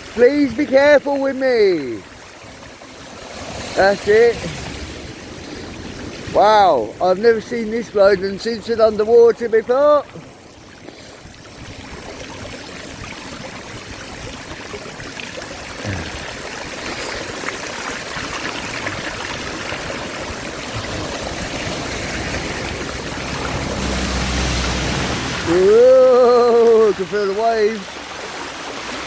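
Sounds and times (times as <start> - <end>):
floodwater rushing and sloshing: 0.0 - 29.0.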